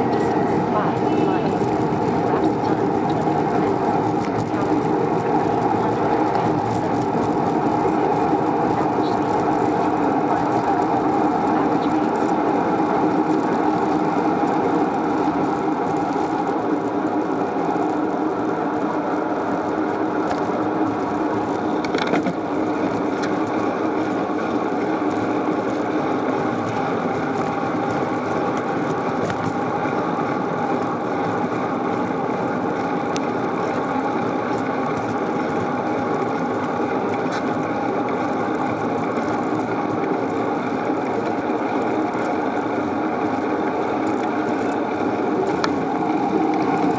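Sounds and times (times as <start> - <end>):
bicycle ride rushing noise: 0.0 - 46.9.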